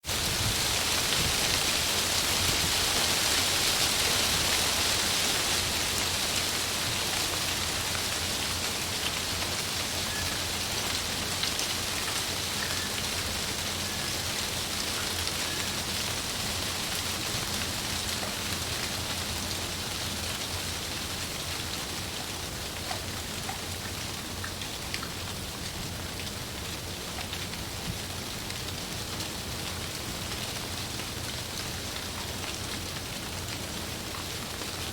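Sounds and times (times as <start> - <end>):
wind rustling tree leaves: 0.0 - 34.9.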